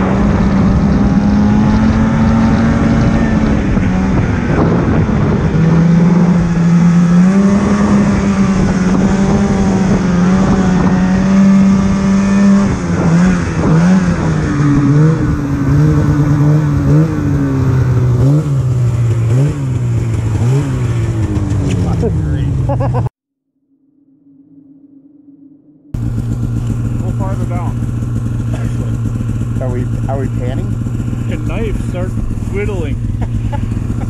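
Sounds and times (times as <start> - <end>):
engine throttle changes: 0.0 - 23.0, 26.0 - 34.0
engine running: 0.0 - 23.1, 25.8 - 34.0.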